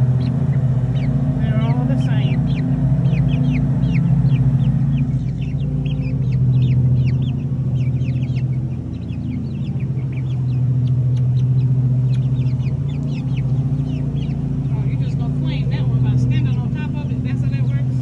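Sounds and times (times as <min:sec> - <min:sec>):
chicks peeping: 0:00.0 - 0:18.0
low mechanical hum: 0:00.0 - 0:18.0.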